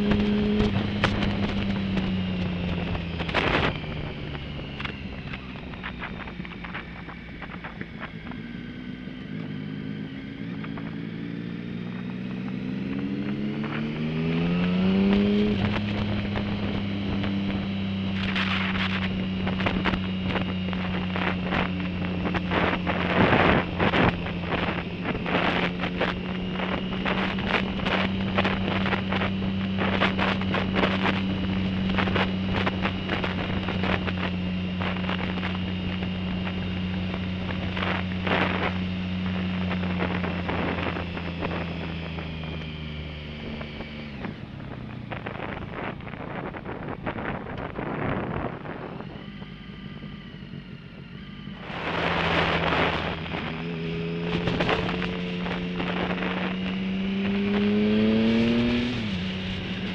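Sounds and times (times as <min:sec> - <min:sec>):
motorcycle engine accelerating: 0:00.0 - 0:59.9
wind buffeting microphone: 0:00.0 - 0:59.9.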